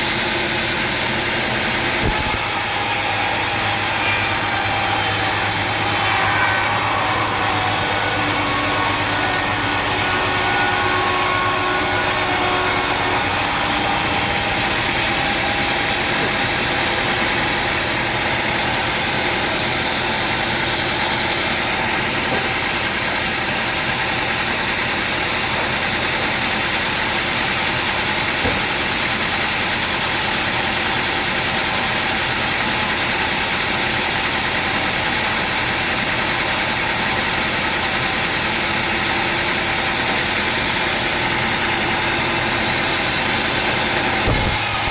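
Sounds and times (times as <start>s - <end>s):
sawmill machinery drone: 0.0s - 44.9s.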